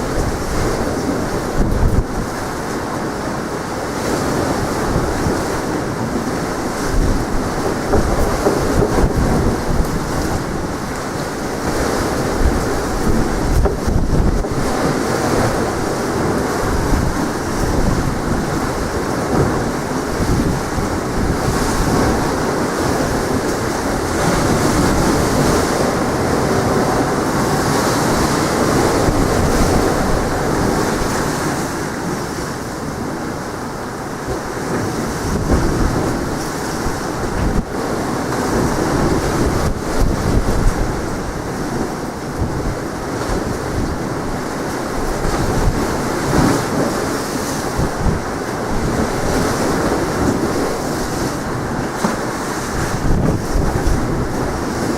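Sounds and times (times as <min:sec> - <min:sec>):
sea waves breaking on shore: 0:00.0 - 0:54.9
wind buffeting microphone: 0:00.0 - 0:54.9.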